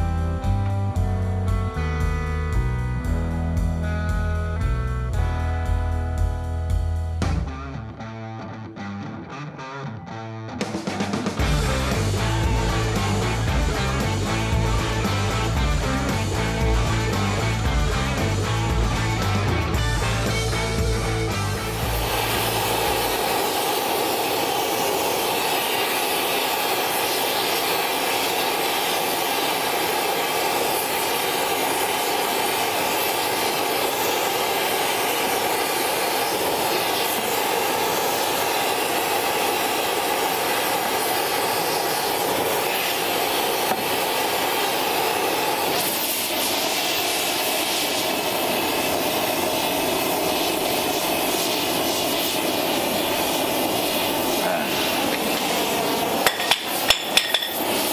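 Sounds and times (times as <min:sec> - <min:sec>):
gas torch hissing: 0:11.4 - 0:57.9.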